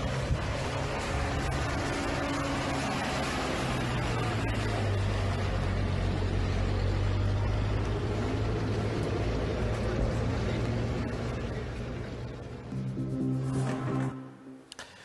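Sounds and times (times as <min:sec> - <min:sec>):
vehicle engines humming: 0:00.0 - 0:15.0.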